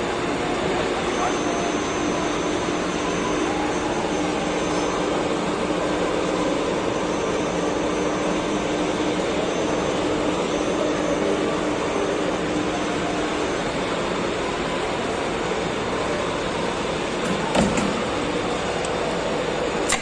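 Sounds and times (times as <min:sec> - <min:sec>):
machine humming: 0:00.0 - 0:20.0.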